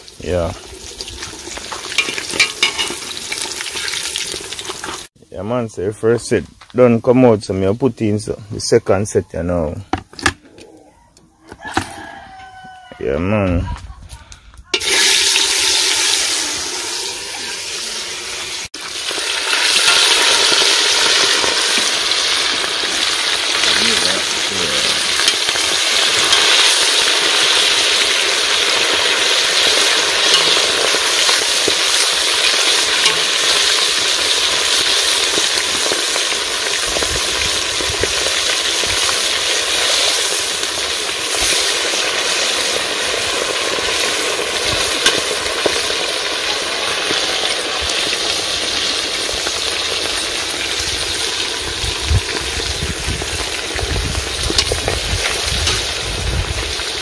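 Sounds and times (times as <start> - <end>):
fish deep-frying in oil: 0.0 - 5.1, 14.7 - 57.0.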